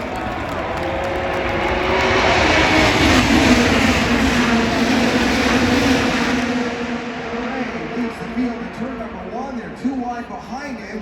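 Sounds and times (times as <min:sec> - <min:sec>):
race cars racing past: 0:00.0 - 0:10.4.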